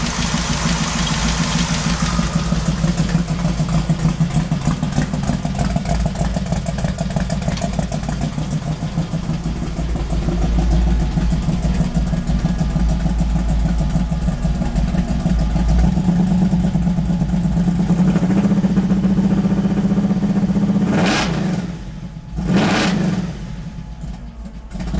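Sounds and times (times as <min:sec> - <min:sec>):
supercharged engine idling and revving: 0:00.0 - 0:24.9.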